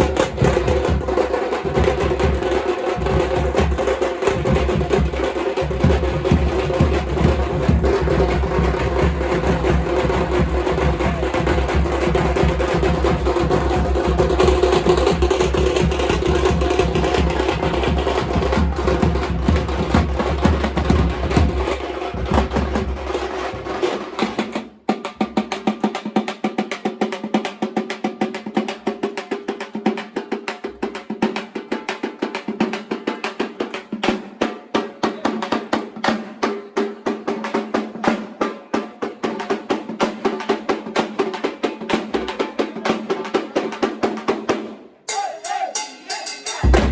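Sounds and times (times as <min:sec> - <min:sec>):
group of drums drumming: 0:00.0 - 0:46.9.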